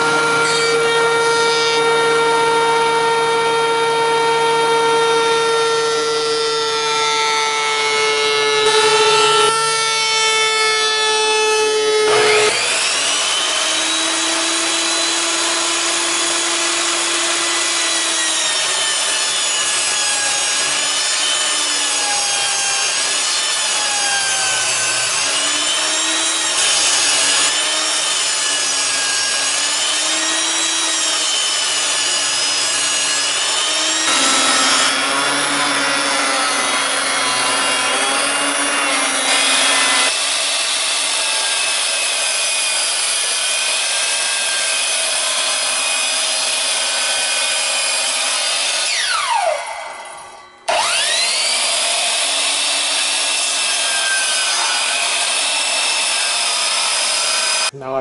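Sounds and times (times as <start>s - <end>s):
table saw ripping boards: 0.0s - 50.0s, 50.7s - 57.8s.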